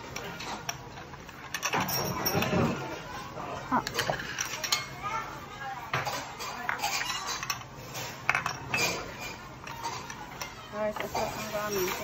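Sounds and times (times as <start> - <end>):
tableware clinking: 0.1 - 5.0, 5.9 - 12.0
murmur of diners chatting: 1.6 - 12.0.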